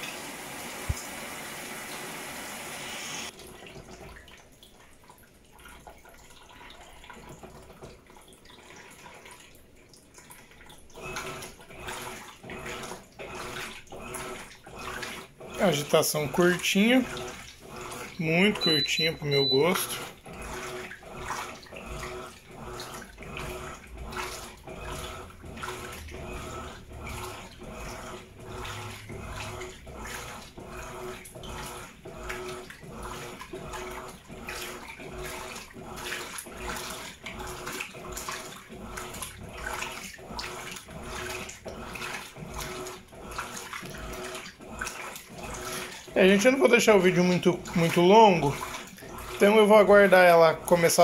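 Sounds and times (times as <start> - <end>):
washing machine agitator swishing water: 0.0 - 51.0
washing machine motor hum: 0.0 - 51.0.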